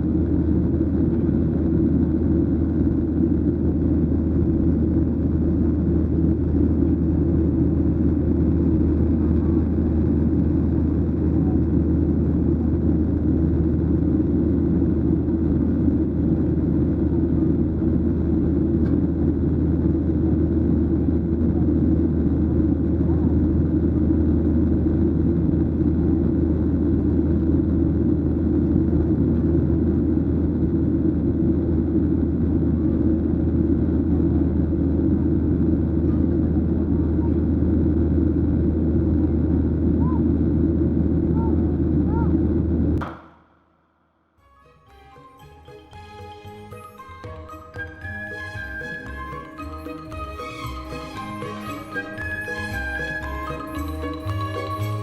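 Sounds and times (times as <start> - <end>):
airplane cabin engine drone: 0.0 - 43.1, 44.4 - 55.0.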